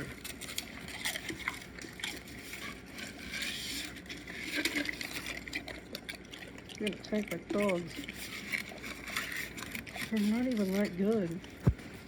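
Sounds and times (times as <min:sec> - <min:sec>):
dogs crunching crisps: 0:00.0 - 0:12.0.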